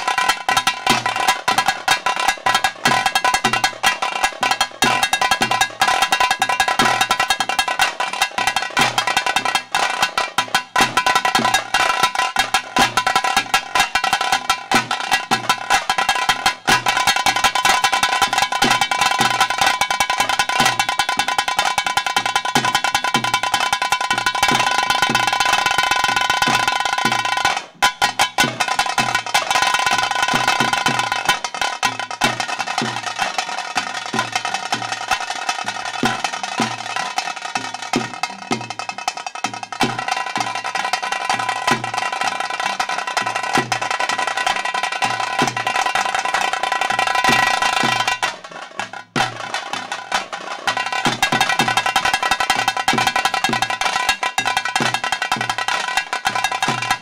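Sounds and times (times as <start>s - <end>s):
rapid stick drumming: 0.0s - 57.0s.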